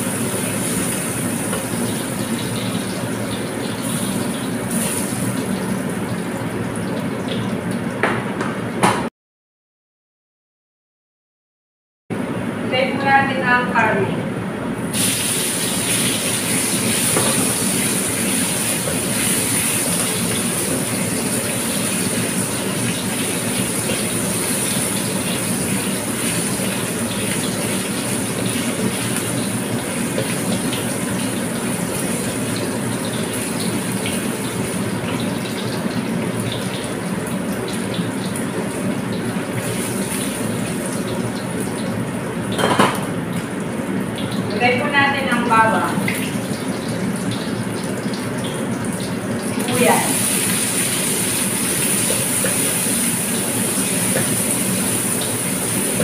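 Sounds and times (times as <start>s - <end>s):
meat sizzling in oil: 0.0s - 7.6s, 14.9s - 42.7s, 45.7s - 56.0s.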